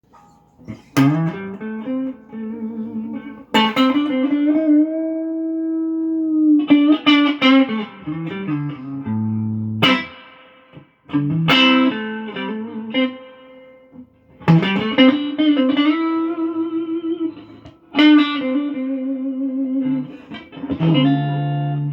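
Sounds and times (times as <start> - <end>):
electric guitar through amp: 0.1 - 21.9.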